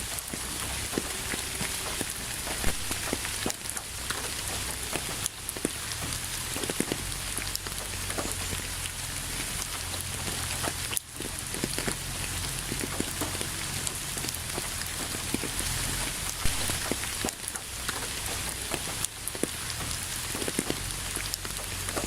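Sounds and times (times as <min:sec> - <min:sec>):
raindrops striking a surface: 0:00.0 - 0:22.0
steady rain falling: 0:00.0 - 0:22.0.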